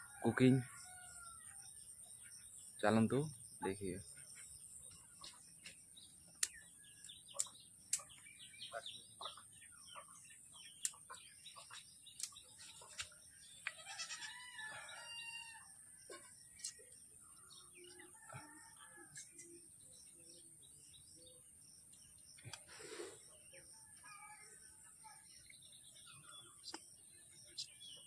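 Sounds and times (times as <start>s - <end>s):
small birds calling: 0.0s - 28.0s.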